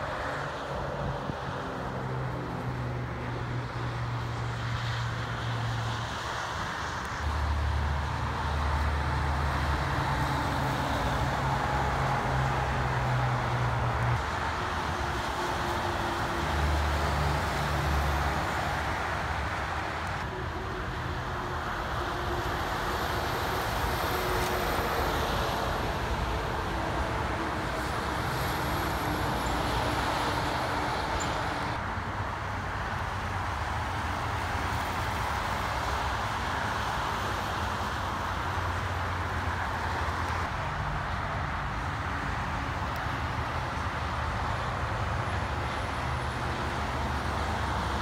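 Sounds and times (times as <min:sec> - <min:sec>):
diesel truck engine drone: 0:00.0 - 0:48.0
tyre and road noise: 0:00.0 - 0:48.0.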